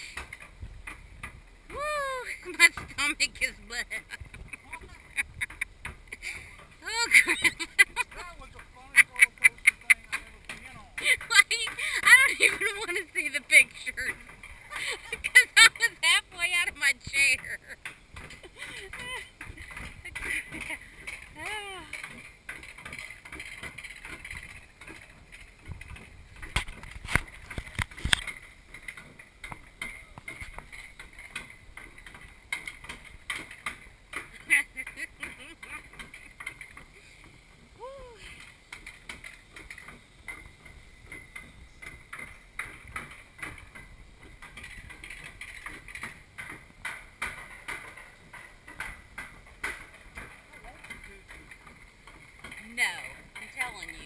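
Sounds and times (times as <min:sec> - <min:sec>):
ride car rolling rumble: 0:00.0 - 0:54.0
sharp clicks and clacks: 0:02.4 - 0:37.4, 0:38.4 - 0:54.0.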